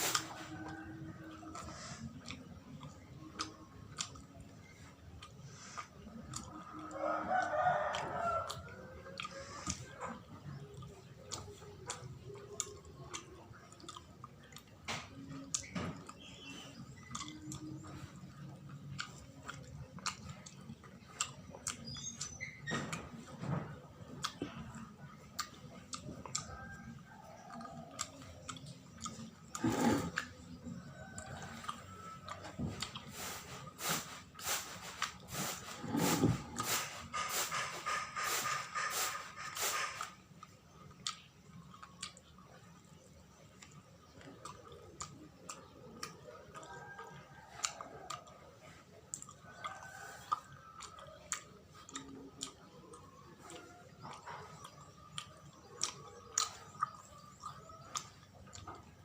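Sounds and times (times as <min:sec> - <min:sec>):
chewing and mouth sounds: 0:00.0 - 0:59.0.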